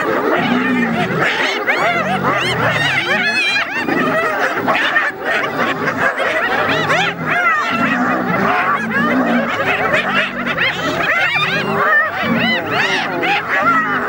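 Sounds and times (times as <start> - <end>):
hyenas giggling: 0.0 - 14.0
low drawn-out hyena calls: 0.0 - 14.0.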